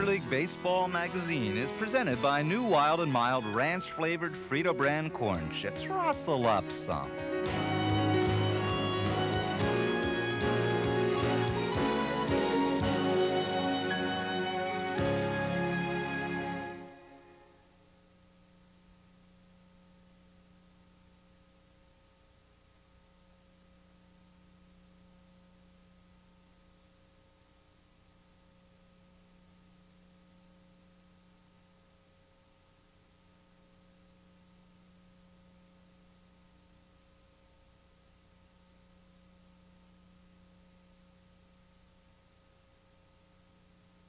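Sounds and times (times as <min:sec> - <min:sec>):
faint electrical hum: 0:00.0 - 0:44.0.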